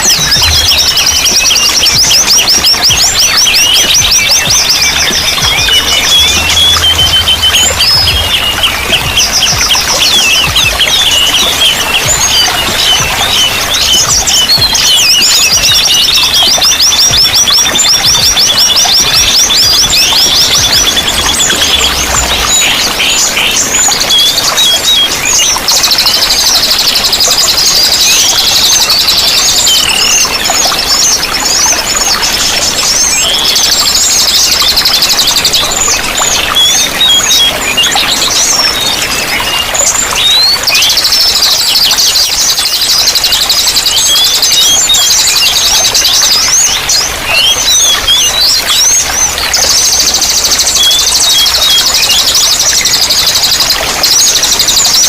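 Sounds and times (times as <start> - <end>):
running water rushing: 0.0 - 55.0
songbirds singing: 0.0 - 55.0.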